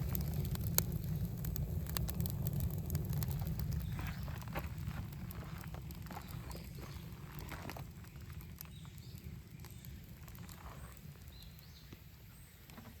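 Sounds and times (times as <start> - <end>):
low steady rumble: 0.0 - 12.5
wood fire crackling: 0.0 - 13.0.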